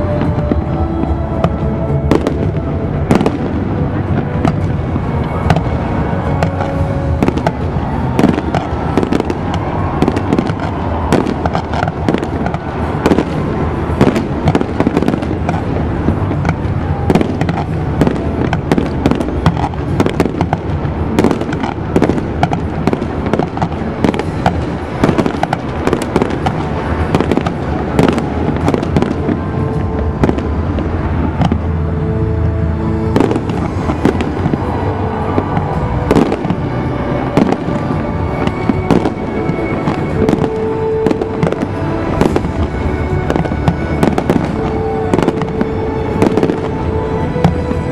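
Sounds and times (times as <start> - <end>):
fireworks crackling: 0.0 - 47.9.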